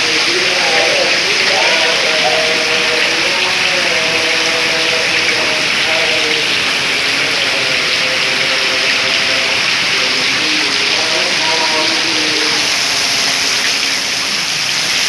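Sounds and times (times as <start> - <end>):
faint voices: 0.0 - 15.0
heavy rain pouring: 0.0 - 15.0.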